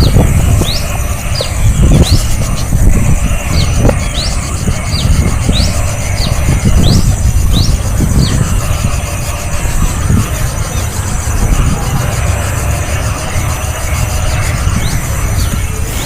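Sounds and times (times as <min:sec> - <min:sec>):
small bird chirping: 0:00.0 - 0:16.0
steady low rumble: 0:00.0 - 0:16.0.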